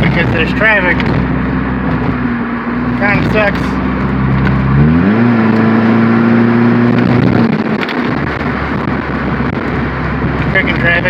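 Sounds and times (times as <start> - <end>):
car exhaust revving: 0.0 - 11.0.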